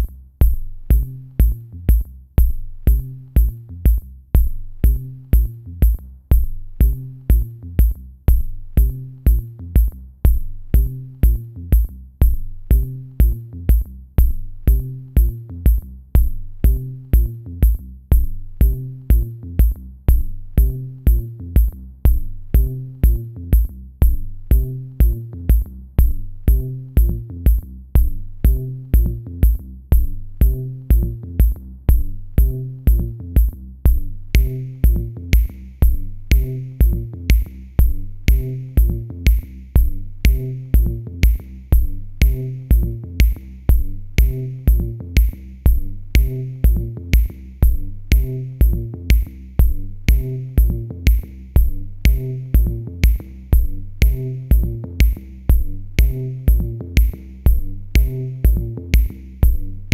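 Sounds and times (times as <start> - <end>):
electronic music with drum beat: 0.0 - 59.9.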